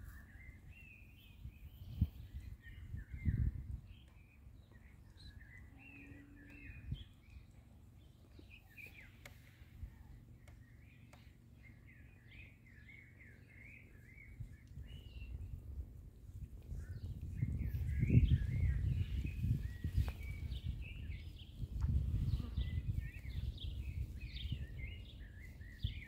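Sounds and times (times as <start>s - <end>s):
low steady background rumble: 0.0s - 26.0s
small birds chirping: 0.0s - 26.0s.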